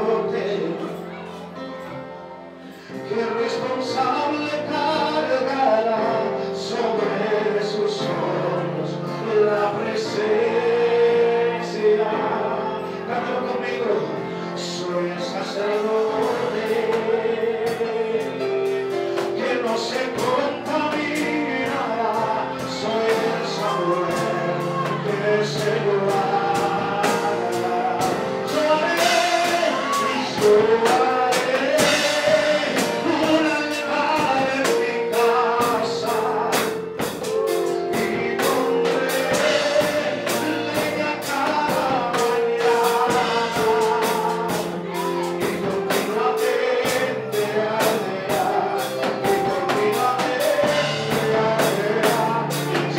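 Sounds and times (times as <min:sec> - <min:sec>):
man singing gospel song: 0:00.0 - 0:01.2, 0:02.8 - 0:52.9
instrumental backing music: 0:00.0 - 0:52.9.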